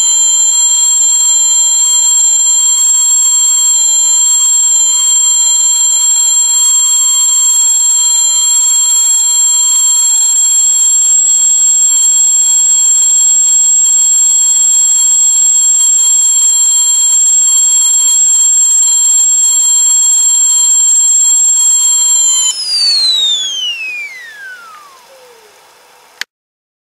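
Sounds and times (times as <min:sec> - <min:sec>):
kettle whistling: 0:00.0 - 0:26.0.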